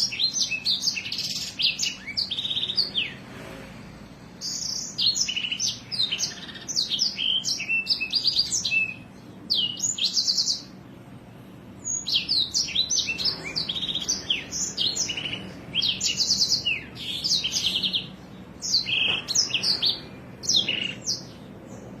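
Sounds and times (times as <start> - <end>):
songbird singing trills: 0.0 - 3.2, 4.4 - 10.8, 11.8 - 22.0.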